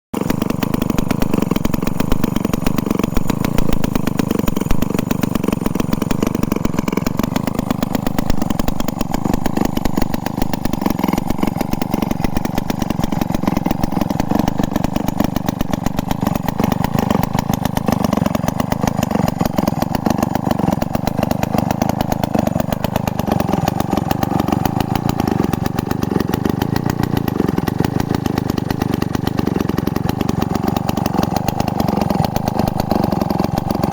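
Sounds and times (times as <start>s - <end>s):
chainsaw engine running: 0.2s - 33.9s.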